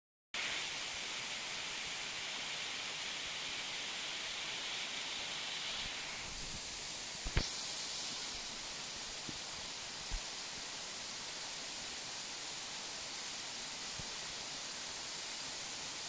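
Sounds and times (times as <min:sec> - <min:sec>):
waterfall rushing: 0:00.4 - 0:16.0.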